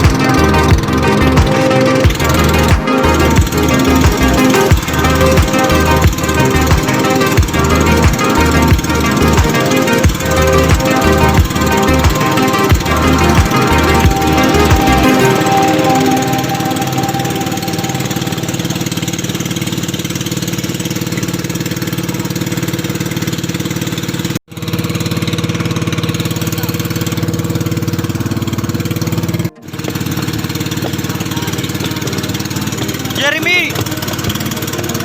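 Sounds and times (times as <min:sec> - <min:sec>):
small engine running: 0:00.0 - 0:35.0.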